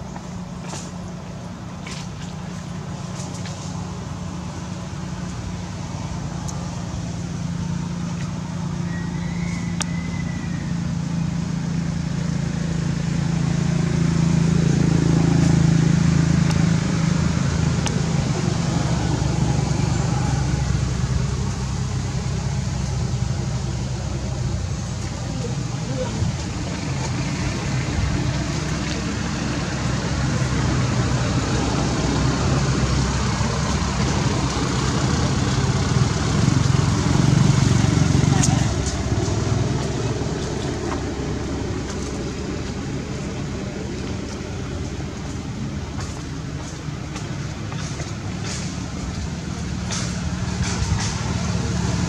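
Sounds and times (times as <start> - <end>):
vehicle engine humming: 0.0 - 52.0.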